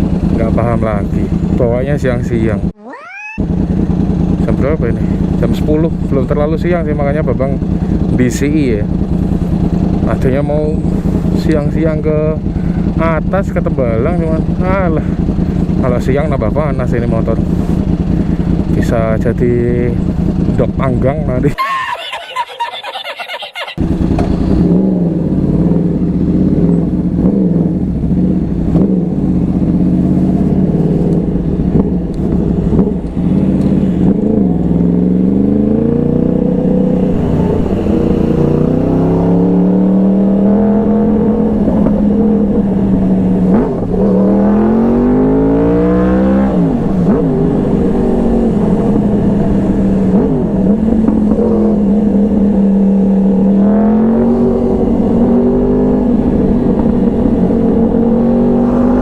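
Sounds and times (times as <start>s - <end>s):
motorcycle engine accelerating: 0.0s - 21.6s, 23.8s - 59.0s.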